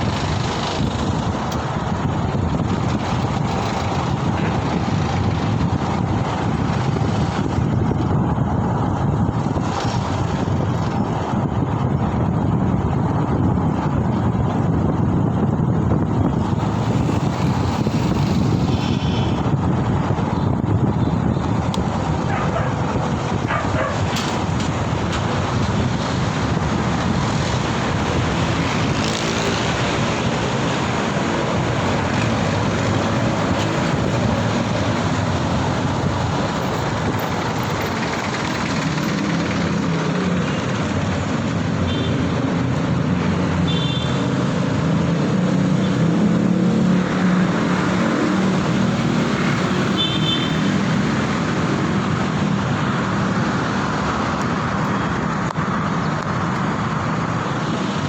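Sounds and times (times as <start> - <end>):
vehicle engines running: 0.0 - 58.0
wind and tyre rush: 0.0 - 58.0.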